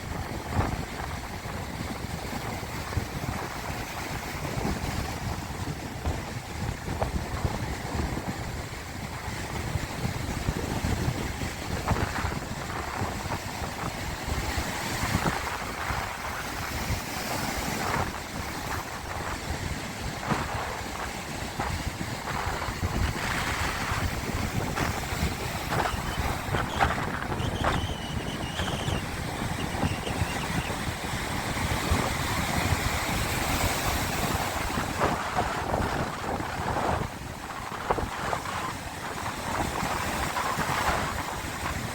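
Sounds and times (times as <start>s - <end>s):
sea waves washing: 0.0s - 41.9s
wind buffeting microphone: 0.0s - 41.9s.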